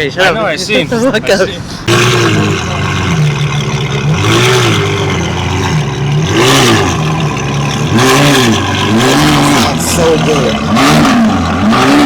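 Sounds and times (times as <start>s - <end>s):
car engine revving and idling: 0.8s - 12.0s.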